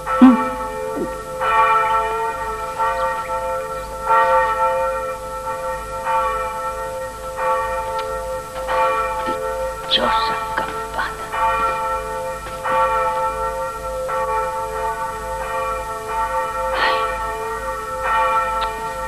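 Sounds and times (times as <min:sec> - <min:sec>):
church bell tolling: 0:00.0 - 0:19.0.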